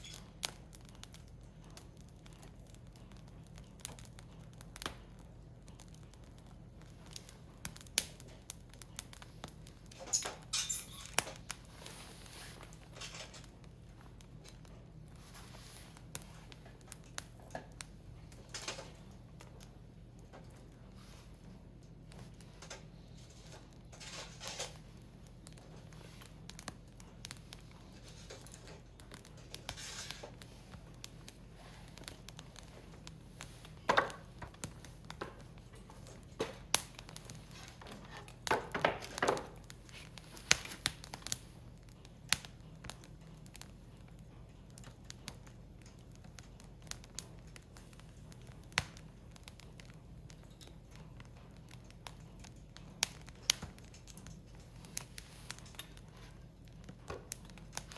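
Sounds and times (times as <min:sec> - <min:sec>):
firewood crackling and popping: 0:00.0 - 0:57.9.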